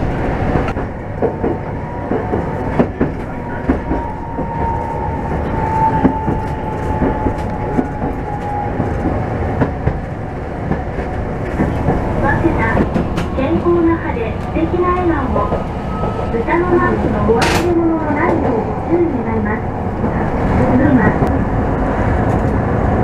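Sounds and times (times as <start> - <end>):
streetcar rumble: 0.0 - 23.0.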